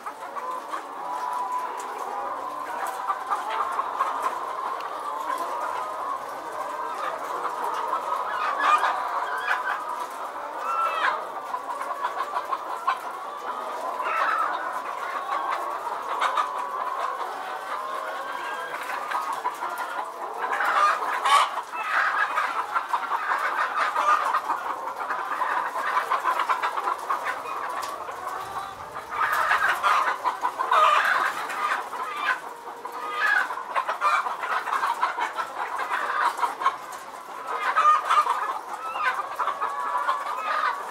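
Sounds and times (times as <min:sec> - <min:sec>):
hens clucking: 0:00.0 - 0:40.9.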